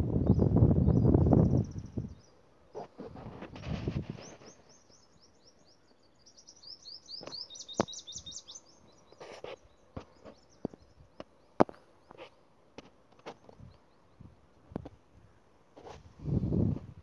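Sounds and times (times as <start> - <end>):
songbird chirping: 0.0 - 3.0, 3.7 - 14.6.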